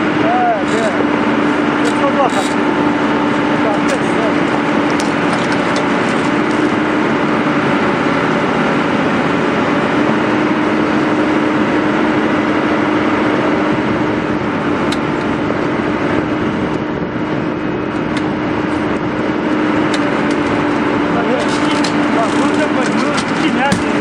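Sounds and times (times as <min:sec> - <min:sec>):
excavator engine droning: 0:00.0 - 0:24.0.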